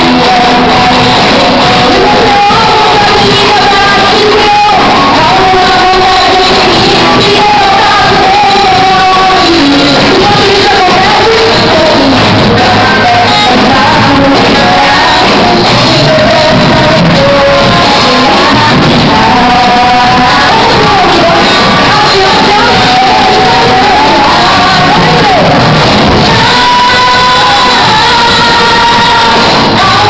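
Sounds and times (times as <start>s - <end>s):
gospel singing with band: 0.0s - 30.0s.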